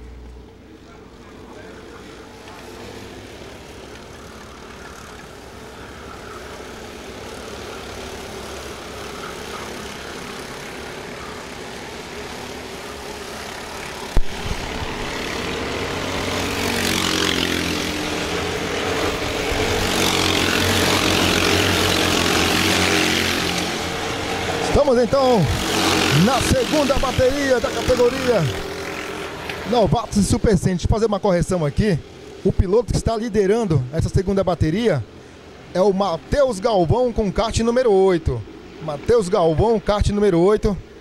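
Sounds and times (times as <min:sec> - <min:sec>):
racing kart engines: 0:00.0 - 0:41.0.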